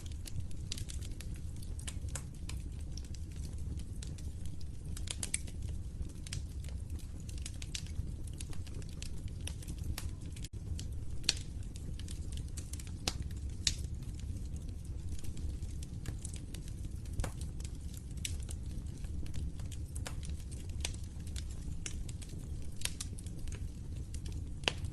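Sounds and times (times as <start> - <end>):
burning wood popping and snapping: 0.0 - 24.9
low rumble of flames: 0.0 - 24.9.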